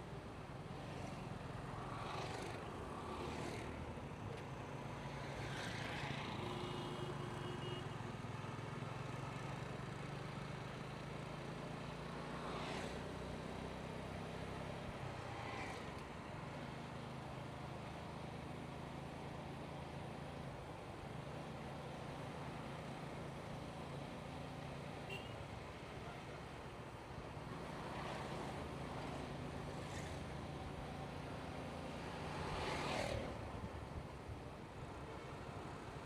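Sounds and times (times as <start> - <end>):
passing traffic rushes: 0.0 - 36.0
road and traffic noise: 0.0 - 36.0.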